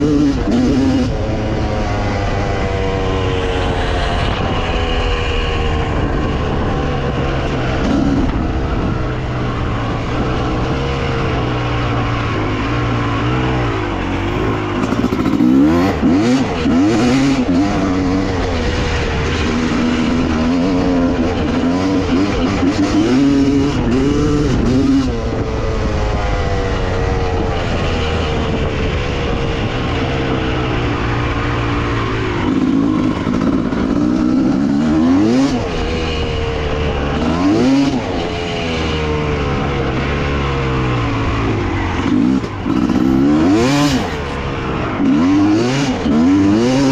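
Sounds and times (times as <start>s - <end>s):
dirt bike engine revving: 0.0s - 8.9s, 9.9s - 25.4s, 32.0s - 46.9s.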